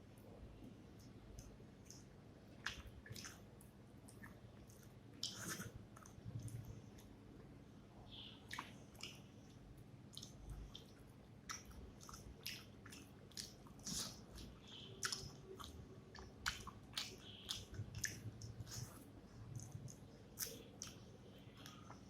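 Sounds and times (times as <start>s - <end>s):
wet chewing and smacking: 1.0s - 7.2s, 8.4s - 22.0s.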